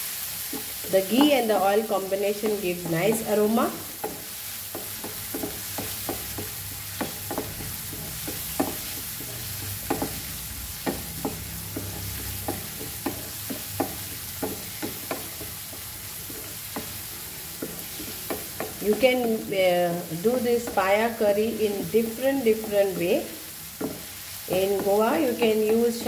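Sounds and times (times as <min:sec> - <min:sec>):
onions sizzling in hot oil: 0:00.0 - 0:26.0
wooden spatula scraping a pan: 0:00.4 - 0:26.0.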